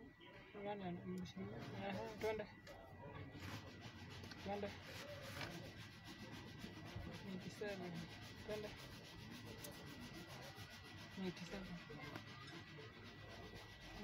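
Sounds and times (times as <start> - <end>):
rubbing and handling noise: 1.3 - 14.0.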